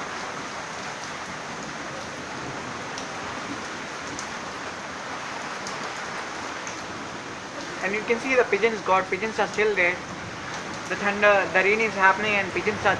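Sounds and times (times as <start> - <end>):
heavy rain hiss: 0.0 - 12.9.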